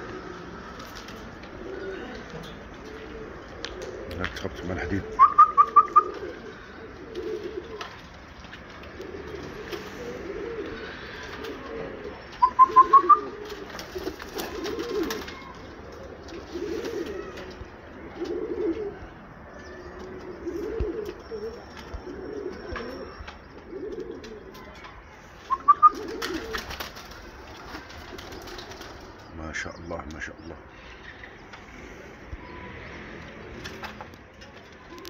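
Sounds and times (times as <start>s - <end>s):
pigeons cooing: 0.0s - 35.0s.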